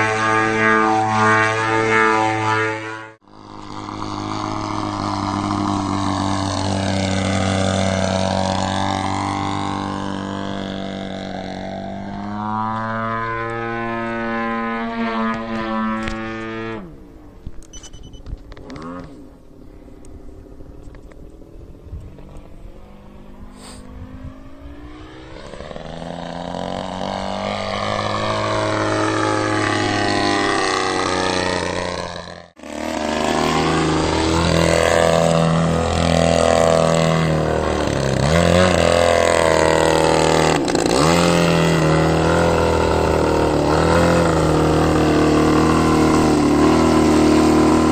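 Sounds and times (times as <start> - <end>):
model plane engine: 0.0 - 47.9.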